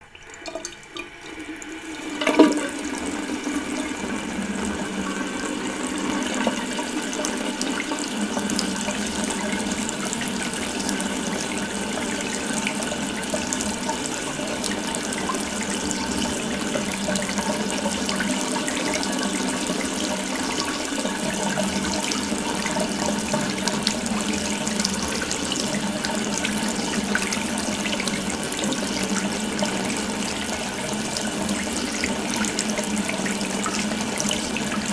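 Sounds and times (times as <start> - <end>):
water running from faucet: 0.0 - 34.9.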